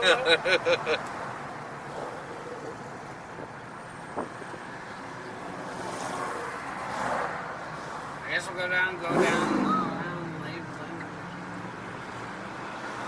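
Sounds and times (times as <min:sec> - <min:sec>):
vehicle noise: 0:00.0 - 0:13.0.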